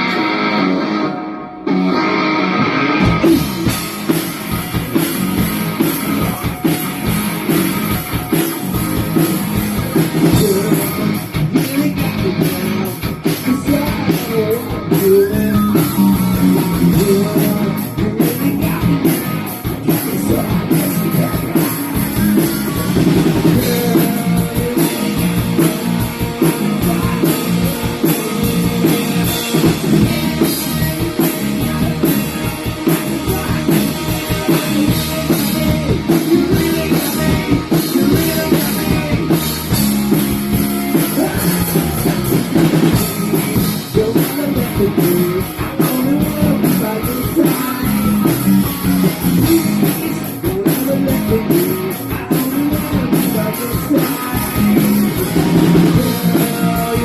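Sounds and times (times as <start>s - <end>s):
drum kit: 0.0s - 57.0s
electric guitar: 0.0s - 57.0s
person singing: 9.0s - 57.0s.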